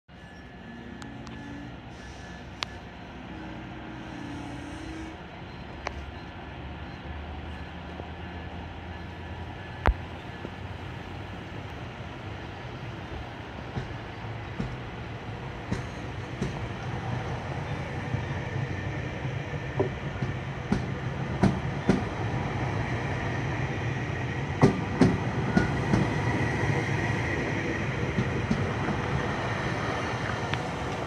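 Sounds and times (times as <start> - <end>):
train coaches rumbling past: 0.1 - 31.0.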